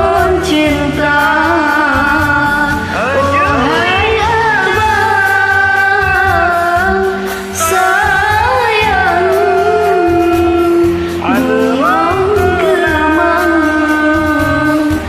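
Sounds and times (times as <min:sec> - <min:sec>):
karaoke backing track with bass: 0:00.0 - 0:15.0
person singing long wavering notes: 0:00.0 - 0:15.0.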